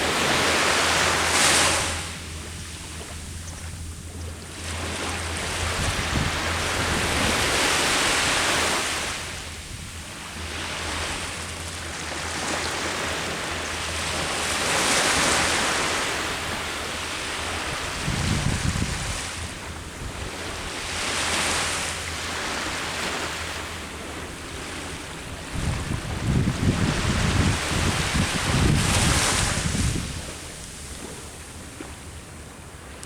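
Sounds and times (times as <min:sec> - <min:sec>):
ocean surf breaking: 0:00.0 - 0:03.3, 0:04.4 - 0:31.9
wind rumble on microphone: 0:00.0 - 0:33.0.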